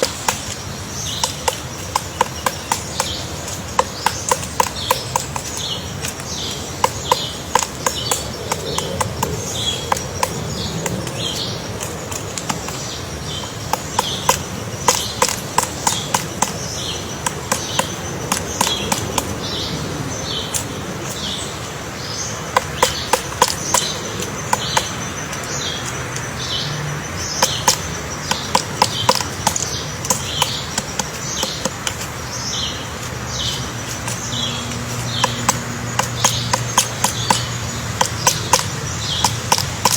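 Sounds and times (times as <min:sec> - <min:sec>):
woodpecker tapping on wood: 0:00.0 - 0:39.9.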